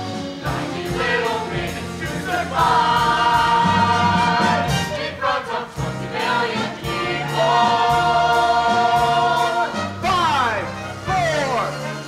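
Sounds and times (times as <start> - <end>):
pit orchestra: 0.0 - 12.0
ensemble singing in chorus: 0.1 - 10.0.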